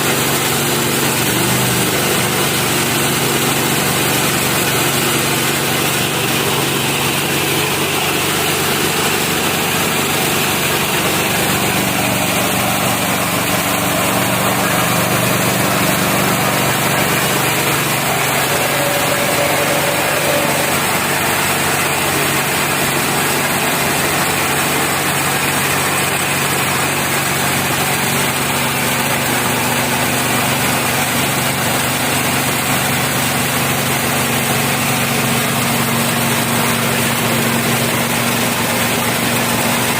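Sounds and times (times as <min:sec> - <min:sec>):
rice milling machine droning: 0:00.0 - 0:39.9.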